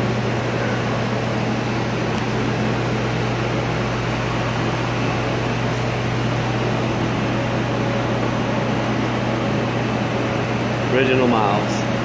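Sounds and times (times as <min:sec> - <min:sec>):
steady low hum and hiss: 0:00.0 - 0:12.0.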